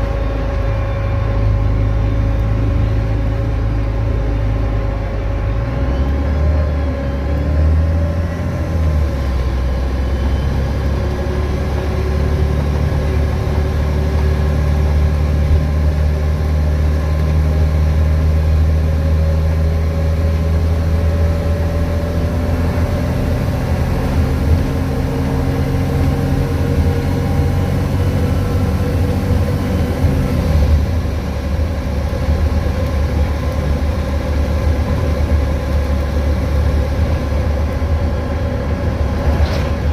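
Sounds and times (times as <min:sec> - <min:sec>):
bus diesel engine running: 0:00.0 - 0:39.9
electric cooling fan whine: 0:00.0 - 0:39.9.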